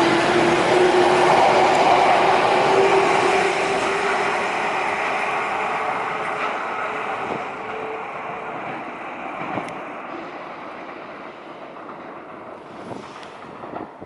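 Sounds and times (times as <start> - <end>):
train running: 0.0 - 14.0
train wheel clack: 0.0 - 14.0.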